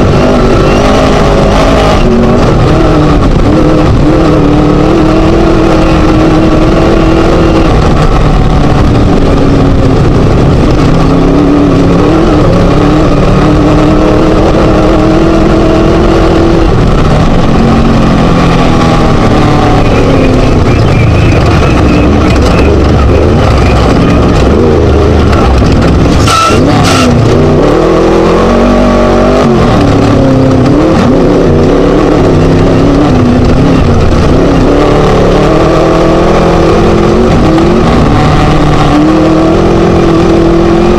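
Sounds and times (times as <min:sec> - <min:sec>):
race buggy engine running hard: 0:00.0 - 0:40.9.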